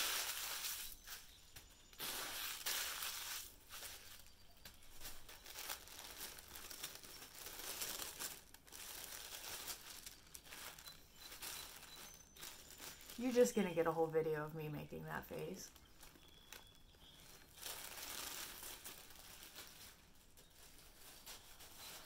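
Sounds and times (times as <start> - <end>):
paper wrapping crinkling: 0.0 - 22.0.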